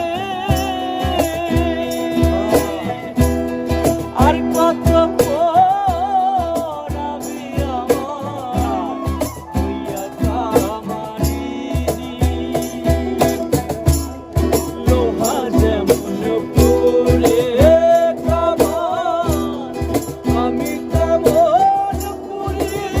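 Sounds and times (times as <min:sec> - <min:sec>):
song with singing over beat: 0:00.0 - 0:23.0.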